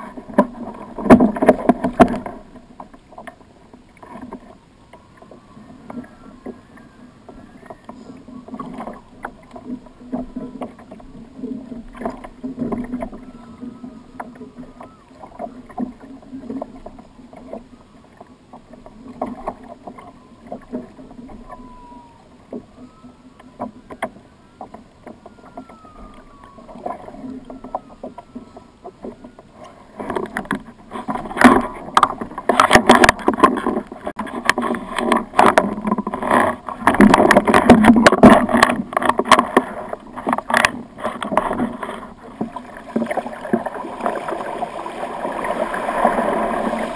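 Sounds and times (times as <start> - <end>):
water lapping against kayak hull: 0.0 - 46.9.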